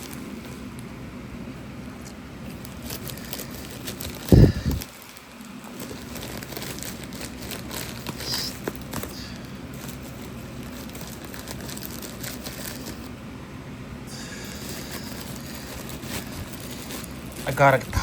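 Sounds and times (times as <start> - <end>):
packaging crinkling and rustling: 0.0 - 0.8, 2.0 - 13.2, 14.5 - 18.0.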